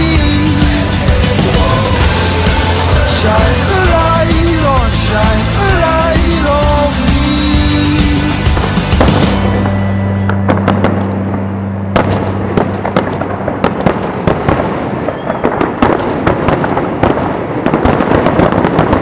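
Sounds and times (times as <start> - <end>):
low song notes: 0.0 - 17.4
fireworks bangs and crackling: 0.0 - 19.0.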